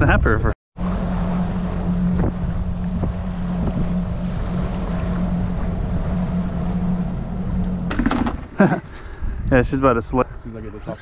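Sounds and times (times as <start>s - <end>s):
wind rushing over microphone: 0.0s - 11.0s
outboard motor humming: 0.8s - 11.0s.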